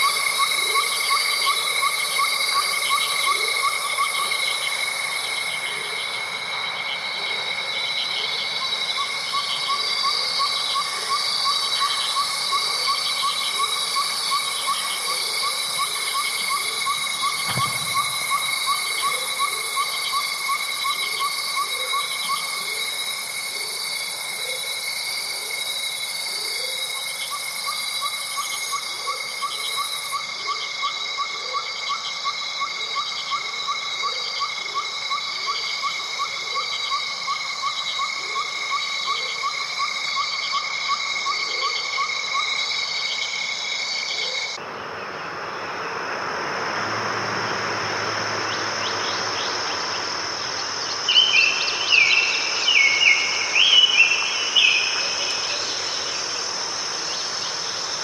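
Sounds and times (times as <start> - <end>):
crickets trilling: 0.0 - 58.0
fast ticking insect chirp: 0.0 - 58.0.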